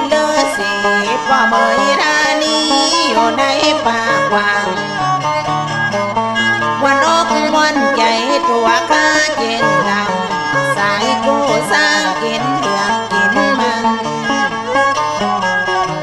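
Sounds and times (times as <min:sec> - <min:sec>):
bowed fiddle melody sliding: 0:00.0 - 0:16.0
plucked lute: 0:00.0 - 0:16.0.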